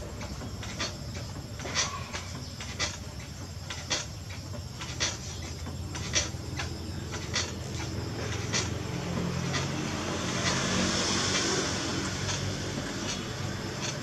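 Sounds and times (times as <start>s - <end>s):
potter's wheel humming: 0.0s - 14.0s.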